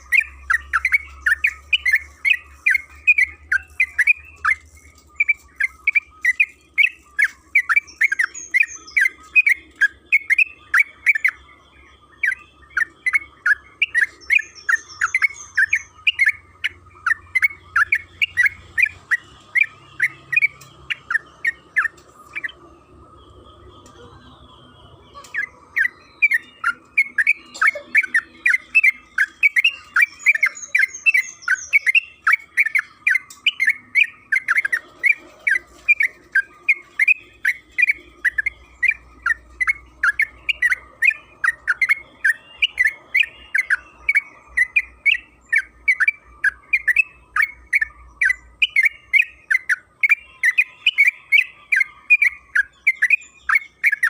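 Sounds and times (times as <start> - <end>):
bulbul chirping song: 0.0 - 54.0.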